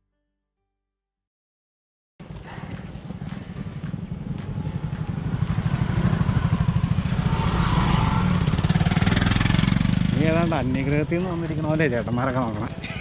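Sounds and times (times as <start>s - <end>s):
motorcycle engine passing by: 2.2s - 12.8s.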